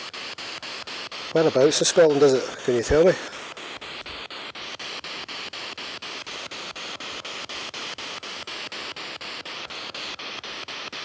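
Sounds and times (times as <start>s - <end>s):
chopped radio static hiss: 0.0s - 11.0s.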